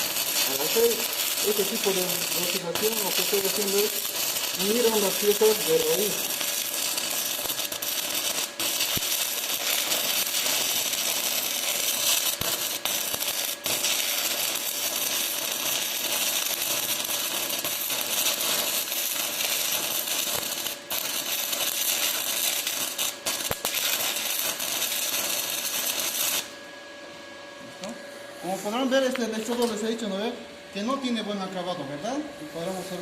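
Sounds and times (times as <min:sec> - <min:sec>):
welding arc crackling: 0:00.0 - 0:26.6.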